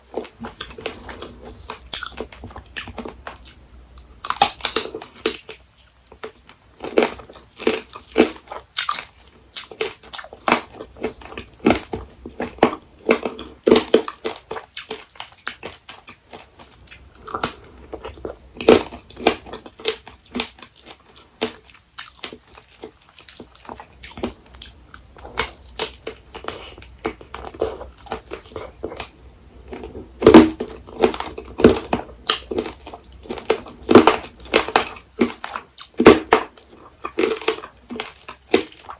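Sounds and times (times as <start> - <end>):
quiet chewing: 0.0 - 38.9
candy shell crunching: 0.1 - 38.9.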